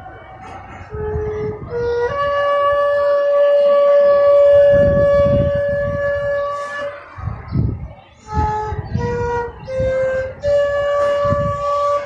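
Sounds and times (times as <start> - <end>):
bamboo flute notes: 0.4 - 7.5, 8.1 - 12.0.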